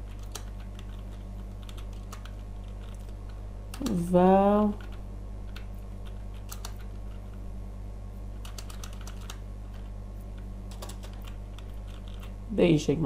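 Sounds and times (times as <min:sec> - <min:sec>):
keyboard typing: 0:00.0 - 0:04.0, 0:04.6 - 0:07.4, 0:08.4 - 0:12.4
low hum: 0:00.0 - 0:13.0.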